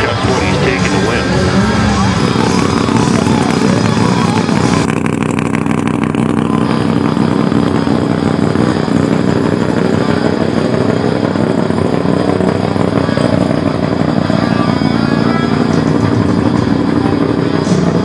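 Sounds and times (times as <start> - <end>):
pickup truck engines idling: 0.0 - 18.0.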